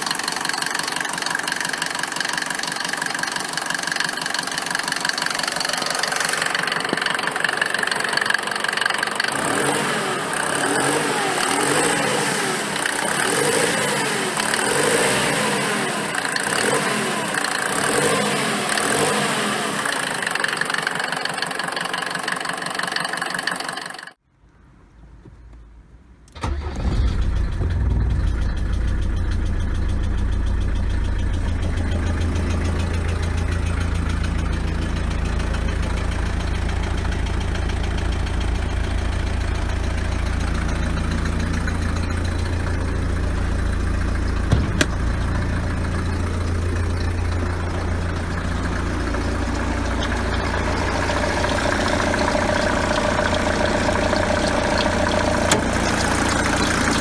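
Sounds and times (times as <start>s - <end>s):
diesel engine idling: 0.0s - 24.2s, 26.3s - 57.0s.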